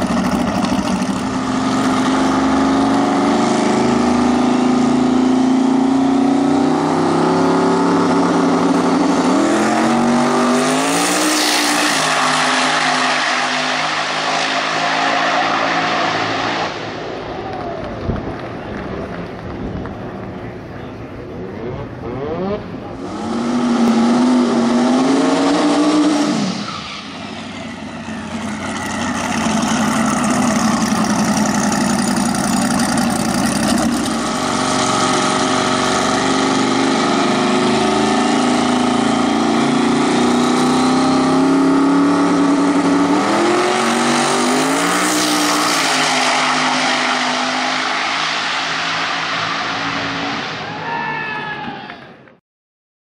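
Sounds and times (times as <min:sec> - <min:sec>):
race car engine revving hard: 0:00.0 - 0:17.0, 0:21.7 - 0:26.7, 0:28.2 - 0:50.6.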